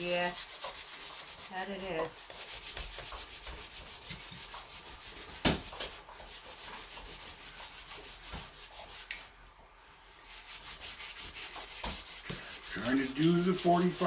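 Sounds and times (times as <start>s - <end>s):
sandpaper scuffing car paint: 0.0s - 9.3s, 10.2s - 14.0s.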